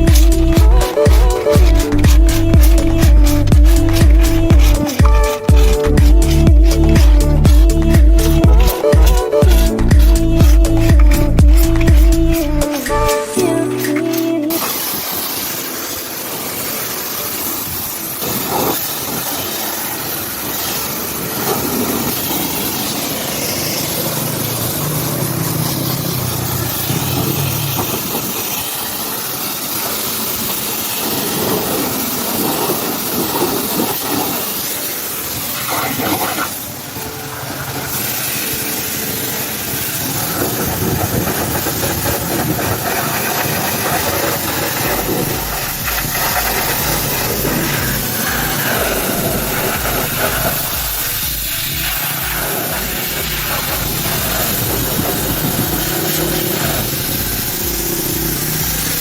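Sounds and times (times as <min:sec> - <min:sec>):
engine running: 0:00.0 - 0:59.0
pressure washer spraying water: 0:00.0 - 0:59.0.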